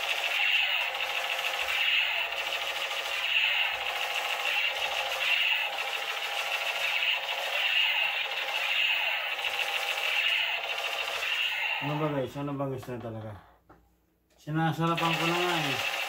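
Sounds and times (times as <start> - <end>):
toy gun electronic firing sound: 0.0 - 12.2, 14.9 - 16.0.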